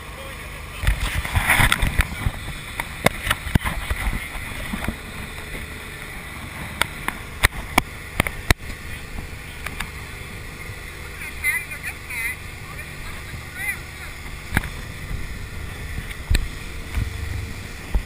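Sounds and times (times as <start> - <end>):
motorboat engine rumble: 0.0 - 18.0
wind and water rushing: 0.7 - 18.0.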